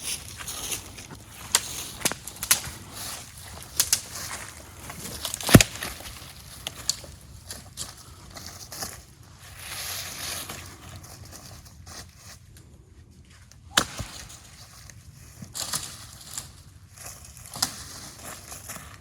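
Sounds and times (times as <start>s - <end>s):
dry branches crackling and snapping: 0.0s - 11.6s, 13.7s - 19.0s.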